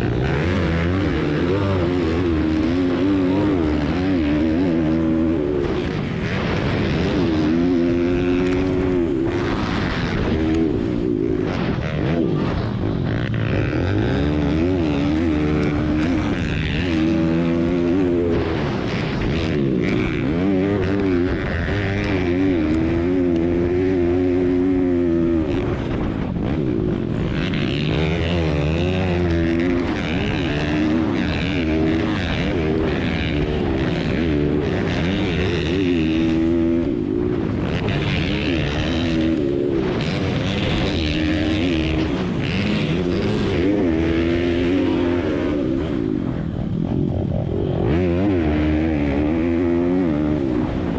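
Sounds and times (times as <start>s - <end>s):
pit bike engines revving: 0.0s - 50.9s.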